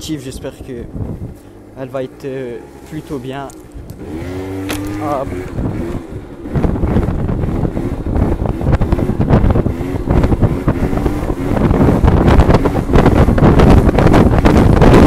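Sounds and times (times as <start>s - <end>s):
wind buffeting microphone: 0.0s - 15.0s
scooter engine at high revs: 0.9s - 15.0s.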